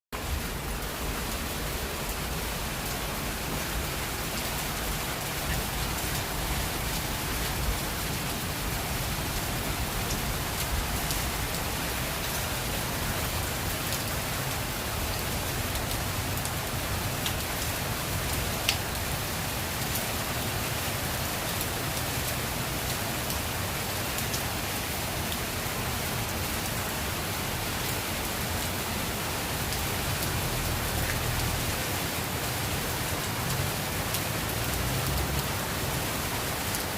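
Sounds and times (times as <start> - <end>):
heavy rain pouring: 0.2 - 36.9.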